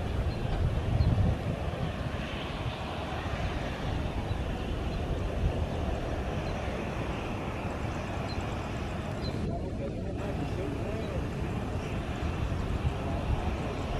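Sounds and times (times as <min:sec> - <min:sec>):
jet engines rumbling: 0:00.0 - 0:13.9.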